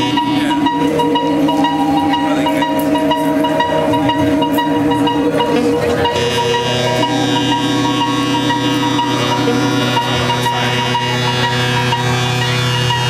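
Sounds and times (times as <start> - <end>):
electronic drone: 0.0 - 13.0
repeating electronic blip: 0.0 - 13.0
wavering low tone: 0.0 - 13.0.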